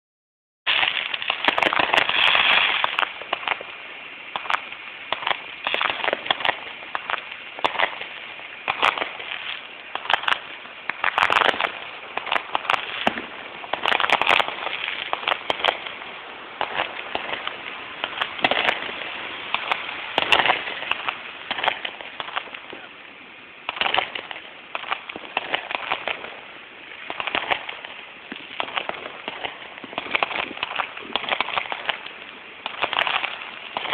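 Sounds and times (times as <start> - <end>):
fireworks crackling and popping: 0.6 - 33.9.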